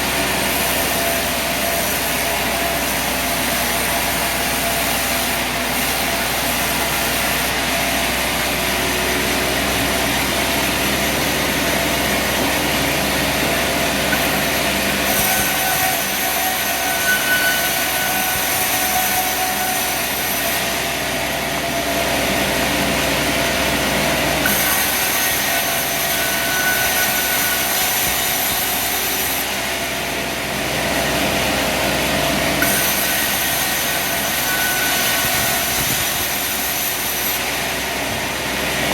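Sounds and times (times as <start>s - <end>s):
sawmill engine drone: 0.0s - 38.9s.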